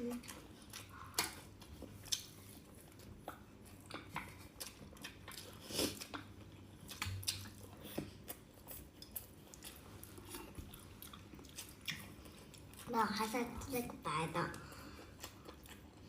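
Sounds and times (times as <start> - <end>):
person chewing food: 0.0 - 13.4, 14.5 - 16.0.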